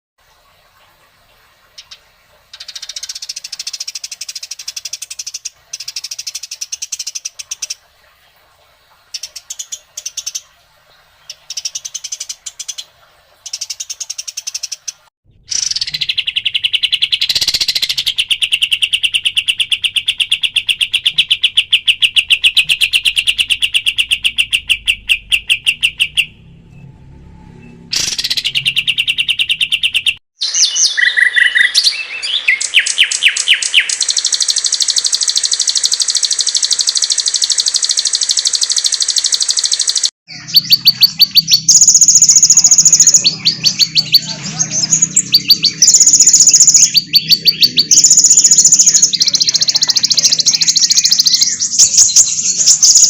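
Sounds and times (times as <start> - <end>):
songbird chattering and rapid notes: 1.8 - 7.8, 9.1 - 10.5, 11.2 - 26.4, 27.9 - 53.0.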